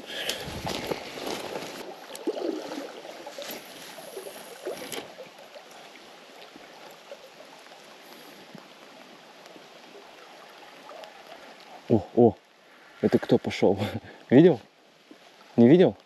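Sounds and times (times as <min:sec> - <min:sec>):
small river running: 0:00.0 - 0:16.0.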